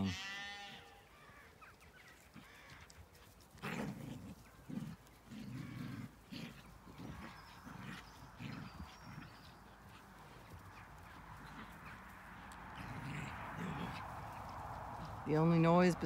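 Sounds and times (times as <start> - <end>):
faint birdsong: 0.0 - 16.0
dogs play-growling: 1.3 - 15.2.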